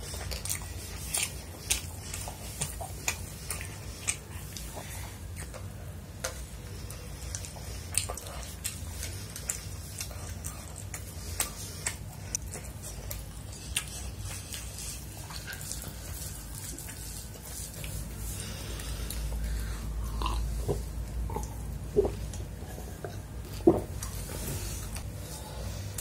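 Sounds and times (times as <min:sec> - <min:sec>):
chewing mouth sounds: 0:00.0 - 0:26.0
low steady hum: 0:00.0 - 0:26.0.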